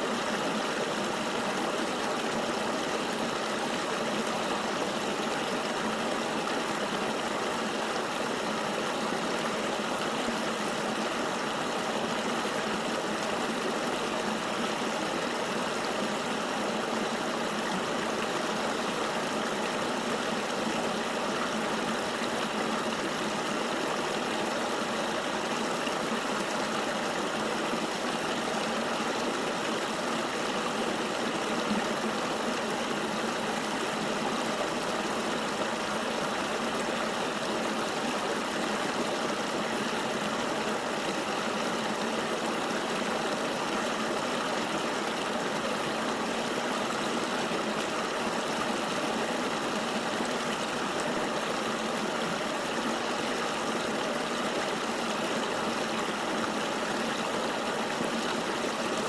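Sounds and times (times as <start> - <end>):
river flowing: 0.0 - 59.0.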